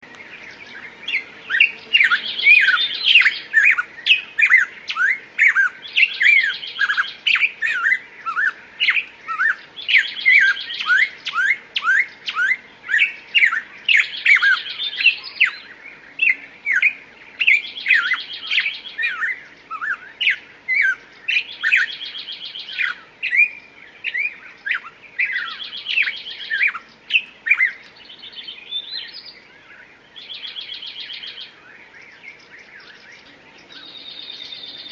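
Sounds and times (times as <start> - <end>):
songbirds chirping: 0.0 - 34.9
buzzy bird trill: 0.6 - 29.5, 32.8 - 34.9.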